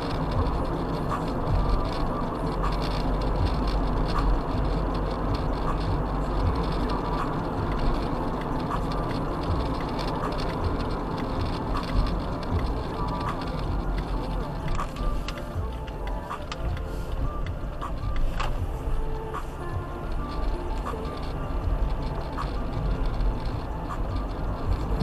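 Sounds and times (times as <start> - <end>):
car cabin road noise: 0.0 - 25.0
deep rumble: 0.0 - 25.0.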